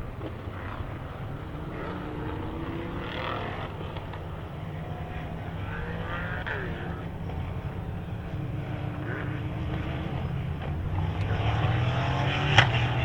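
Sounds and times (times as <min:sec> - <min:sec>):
racing car engines: 0:00.0 - 0:13.0
steady low rumble: 0:00.0 - 0:13.0.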